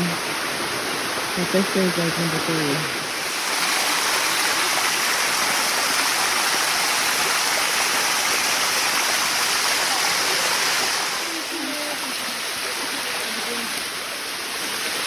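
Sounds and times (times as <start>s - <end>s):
waterfall cascading over rock: 0.0s - 15.0s.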